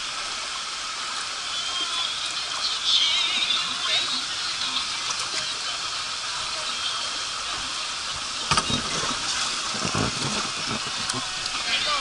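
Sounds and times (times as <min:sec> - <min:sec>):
water running down a slide: 0:00.0 - 0:12.0.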